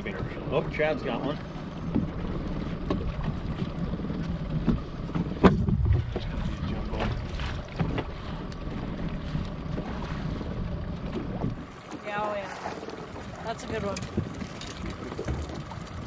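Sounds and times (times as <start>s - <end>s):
outboard motor running: 0.0s - 16.0s
wind buffeting microphone: 0.0s - 16.0s.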